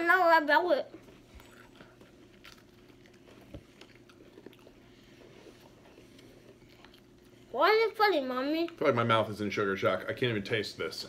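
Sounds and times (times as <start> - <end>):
low steady hum: 0.0 - 11.0
people chewing cookies: 0.8 - 10.7.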